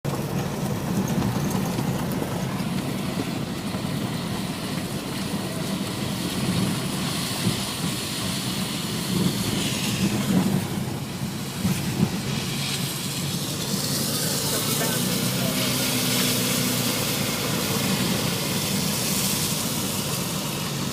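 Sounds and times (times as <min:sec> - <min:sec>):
vehicle engines running: 0:00.0 - 0:20.9.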